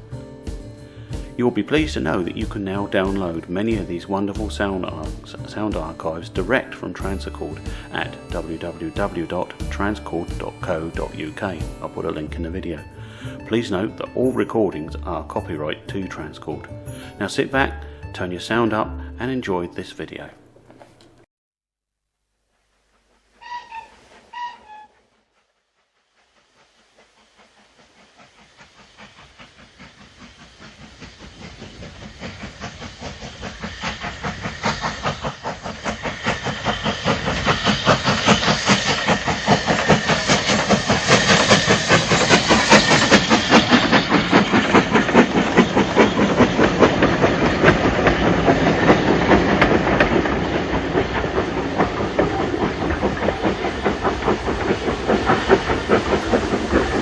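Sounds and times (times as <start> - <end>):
steam hiss: 0.0 - 13.4, 23.0 - 57.0
steam locomotive exhaust beats: 0.0 - 19.3, 22.8 - 57.0.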